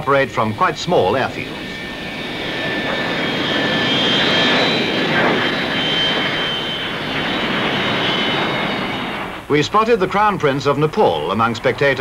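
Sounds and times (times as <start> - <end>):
jet engines with high whine: 0.0 - 12.0.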